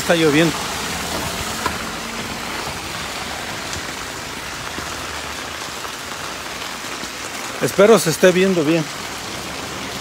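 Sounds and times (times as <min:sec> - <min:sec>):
rain on wet pavement: 0:00.0 - 0:10.0.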